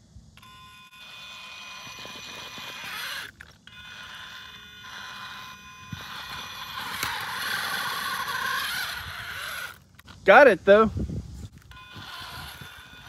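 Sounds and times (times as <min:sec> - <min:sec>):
electric motor whining: 0:00.4 - 0:10.2, 0:11.4 - 0:13.0.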